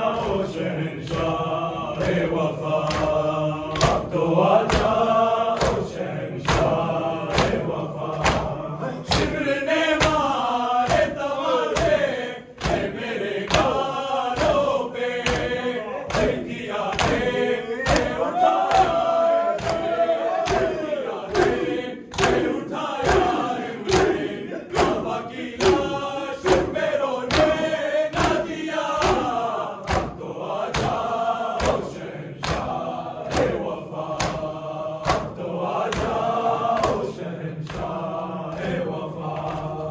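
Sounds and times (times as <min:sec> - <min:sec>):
men chanting together: 0:00.0 - 0:39.9
chest beating slaps: 0:02.0 - 0:10.3, 0:12.6 - 0:19.0, 0:19.6 - 0:37.1.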